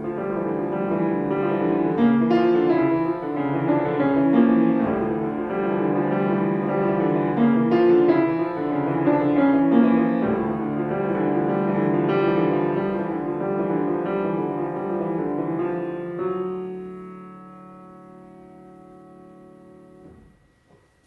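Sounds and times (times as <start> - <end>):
solo piano classical piece: 0.0 - 21.0.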